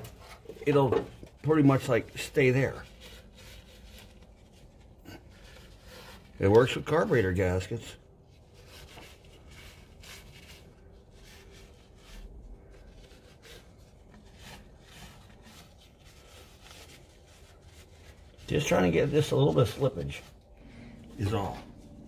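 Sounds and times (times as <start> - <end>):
paper towel rubbing metal: 0.0 - 22.0.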